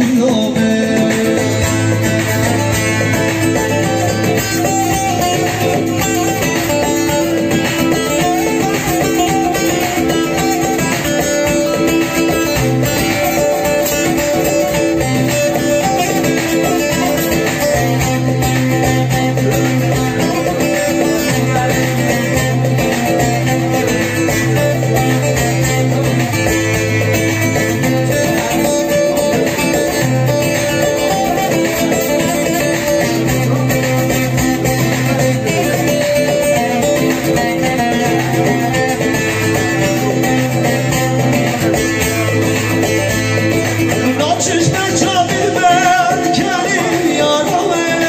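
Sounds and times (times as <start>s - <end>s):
long-necked lute plucked in quick runs: 0.0s - 48.0s.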